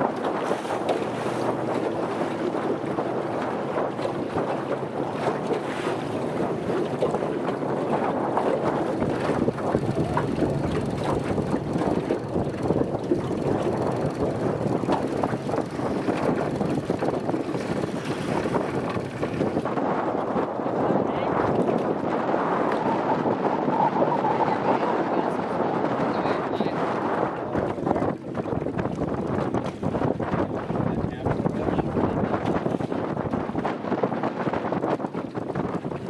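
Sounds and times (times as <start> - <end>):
choppy river water splashing: 0.0 - 36.0
wind buffeting microphone: 0.0 - 36.0.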